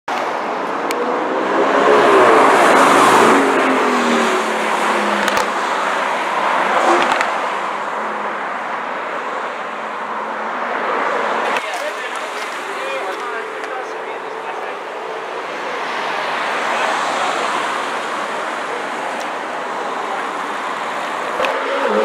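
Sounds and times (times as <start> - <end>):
traffic hum: 0.1 - 22.0
sports car passing by: 0.5 - 22.0.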